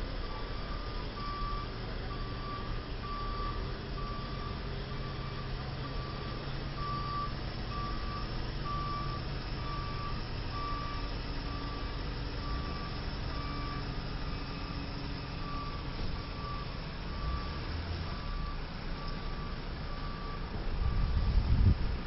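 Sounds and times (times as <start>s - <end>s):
truck backup alarm beeping: 0.0s - 21.7s
diesel engine rumble: 0.0s - 22.0s.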